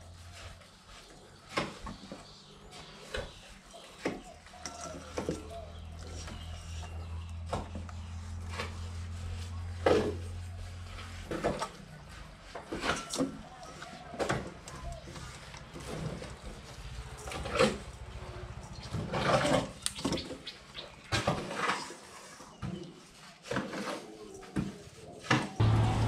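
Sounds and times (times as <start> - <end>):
fish and bowls clicking and knocking: 3.0 - 24.0.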